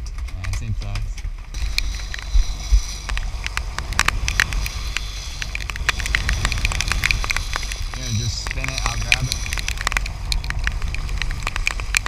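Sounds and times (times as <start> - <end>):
boat engine rumbling: 0.0 - 12.0
wind crackle: 0.0 - 12.0
churning sea spray: 1.6 - 12.0.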